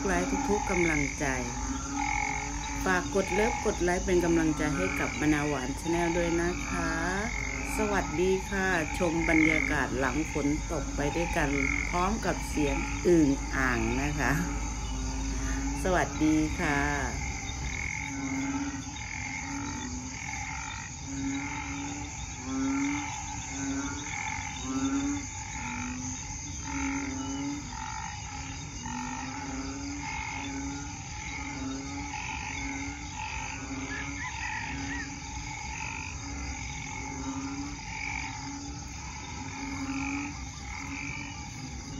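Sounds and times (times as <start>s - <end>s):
frogs low croaking: 0.0s - 41.9s
higher frog chorus: 0.0s - 41.9s.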